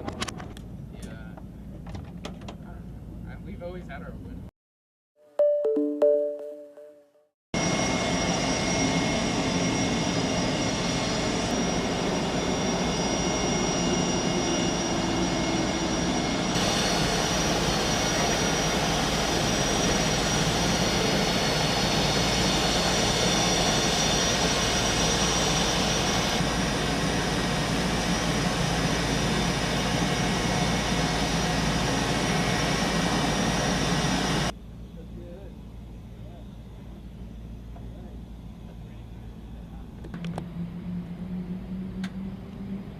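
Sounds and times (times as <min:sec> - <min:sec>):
helicopter turbine engines running: 0:07.6 - 0:42.9.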